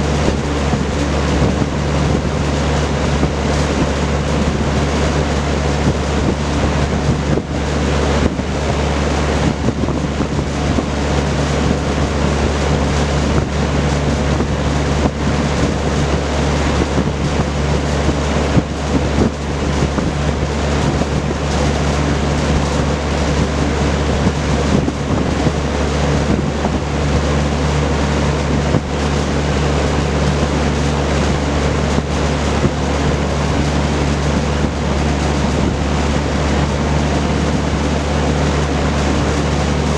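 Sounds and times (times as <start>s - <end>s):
box fan air rushing: 0.0s - 39.9s
fan motor hum: 0.0s - 39.9s.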